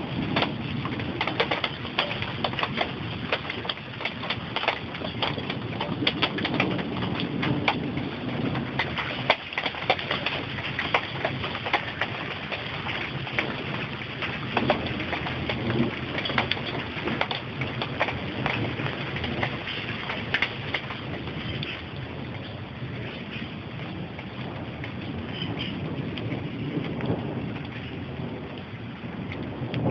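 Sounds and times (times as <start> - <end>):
raindrops on sheet metal: 0.0 - 29.9
steady rain wash: 0.0 - 29.9.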